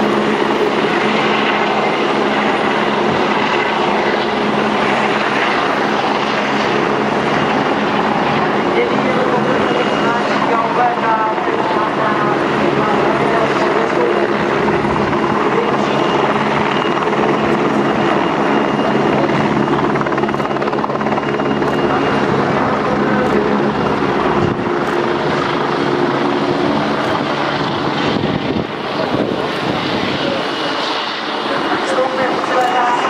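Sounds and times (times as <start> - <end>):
helicopter rotor and engine: 0.0 - 33.0.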